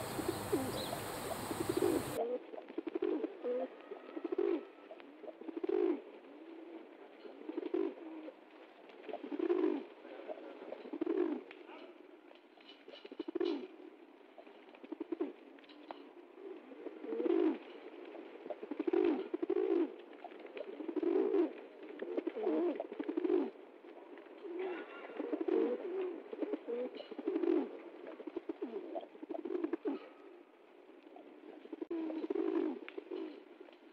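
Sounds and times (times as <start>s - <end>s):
pigeons cooing: 0.0s - 12.1s, 12.7s - 33.9s.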